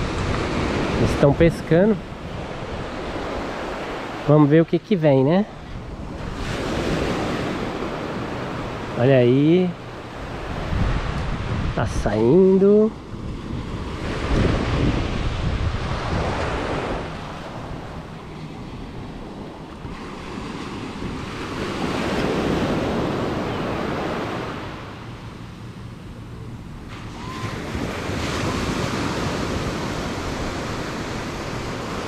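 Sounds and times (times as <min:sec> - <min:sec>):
wind rumbling on microphone: 0:00.0 - 0:04.3, 0:05.5 - 0:09.0, 0:09.8 - 0:32.0
small waves breaking on sand: 0:00.0 - 0:25.5, 0:26.8 - 0:32.0.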